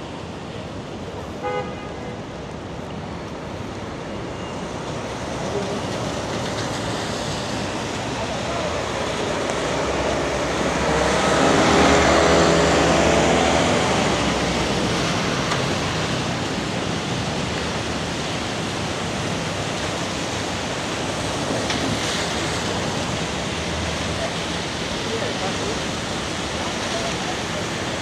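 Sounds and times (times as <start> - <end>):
rain hiss: 0.0 - 28.0
tyres on wet street: 0.0 - 28.0
bus engine: 2.6 - 28.0.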